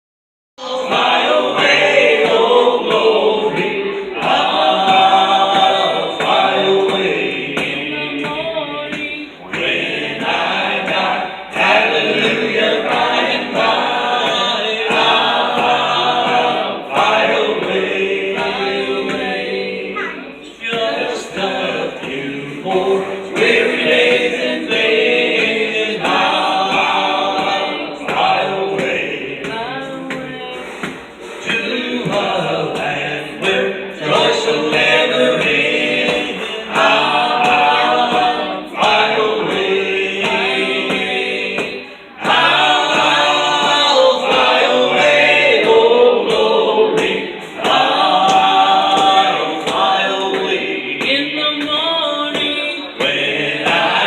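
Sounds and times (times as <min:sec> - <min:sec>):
group singing in harmony: 0:00.6 - 0:54.0.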